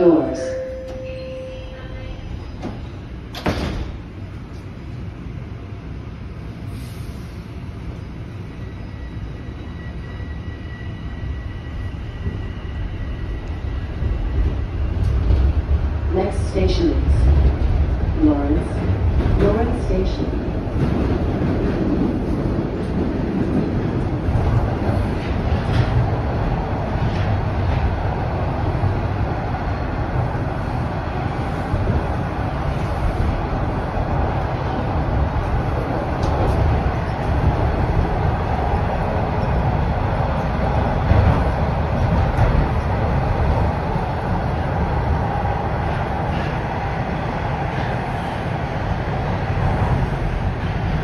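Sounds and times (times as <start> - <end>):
train wheels rumbling on rails: 0.8 - 51.0.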